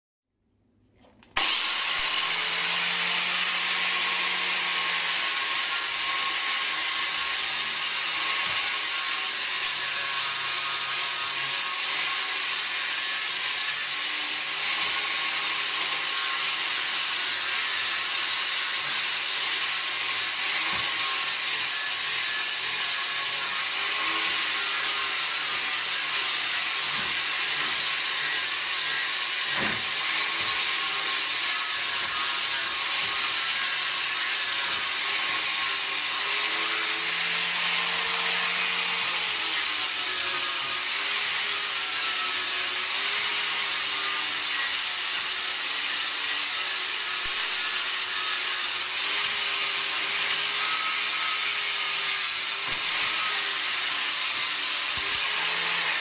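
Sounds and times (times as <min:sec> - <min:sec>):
angle grinder grinding: 0:01.1 - 0:56.0.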